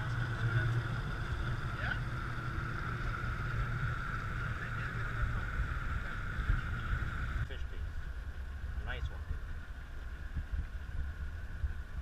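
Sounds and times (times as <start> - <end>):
outboard motors running: 0.0 - 12.0
water washing past hull: 0.0 - 12.0.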